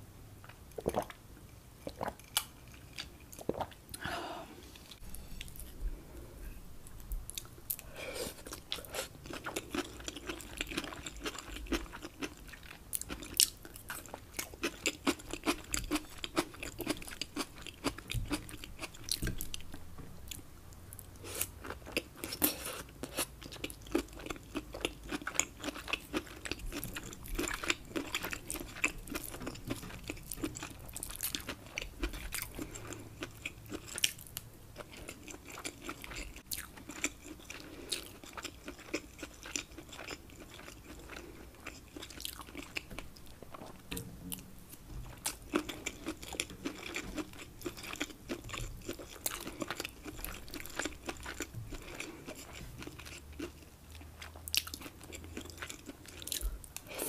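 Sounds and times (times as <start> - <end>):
person chewing food: 0.4 - 1.2, 1.8 - 5.9, 6.8 - 20.4, 21.0 - 57.0.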